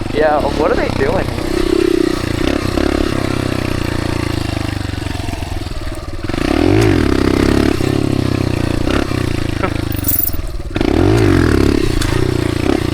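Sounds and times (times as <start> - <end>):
dirt bike engine running: 0.0 - 12.9.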